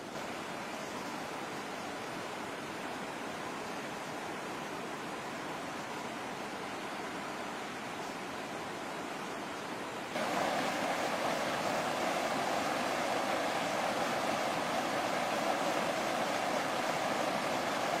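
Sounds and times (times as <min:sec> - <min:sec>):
water rushing over rocky rapids: 0:00.0 - 0:18.0.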